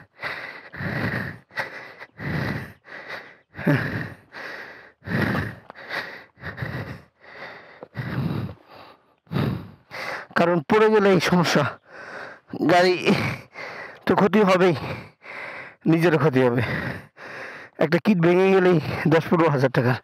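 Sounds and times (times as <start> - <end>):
man panting heavily: 0.0 - 20.0.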